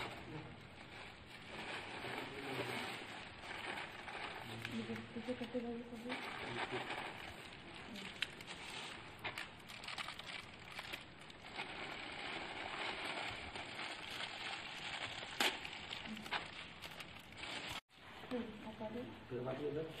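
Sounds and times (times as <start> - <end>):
plastic bag crinkling: 0.0 - 17.9.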